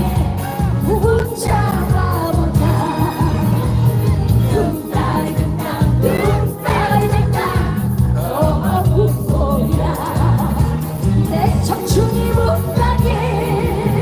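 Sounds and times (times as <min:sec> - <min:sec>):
band with pulsing bass beat: 0:00.0 - 0:14.0
woman singing: 0:00.0 - 0:14.0.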